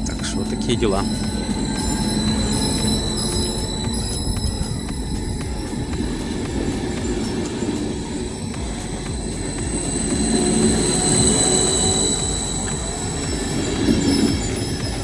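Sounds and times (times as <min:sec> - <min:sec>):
high-pitched train whine: 0:00.0 - 0:15.0
train running gear rumble: 0:00.0 - 0:15.0.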